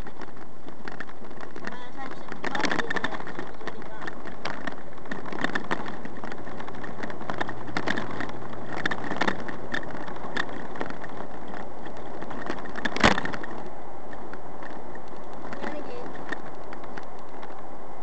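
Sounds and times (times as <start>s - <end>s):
small rattles and knocks: 0.0s - 17.8s
car road and engine noise: 0.0s - 18.0s.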